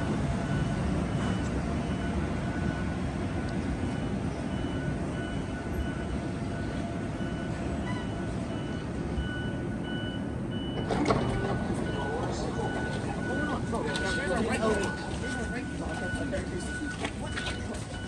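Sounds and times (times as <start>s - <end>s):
low rumble of vehicles: 0.0s - 18.0s.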